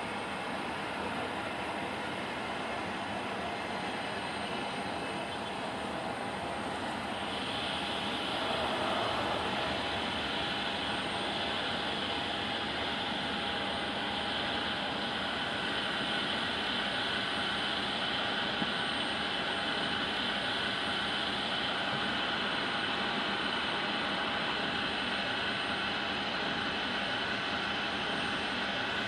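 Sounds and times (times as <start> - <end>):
jet engines running at low power: 0.0 - 29.0.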